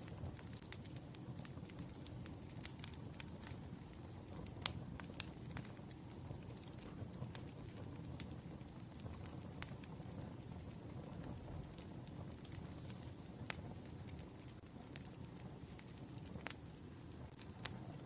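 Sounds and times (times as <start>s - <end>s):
crackles and pops of burning logs: 0.0s - 18.0s
wood fire rumbling: 0.0s - 18.0s.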